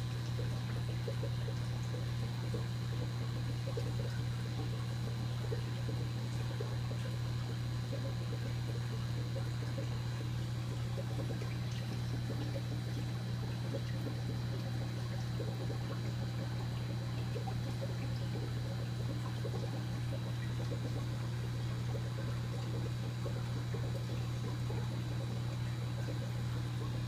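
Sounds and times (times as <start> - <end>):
aquarium equipment hum: 0.0 - 27.0
water trickling and bubbling: 0.0 - 27.0.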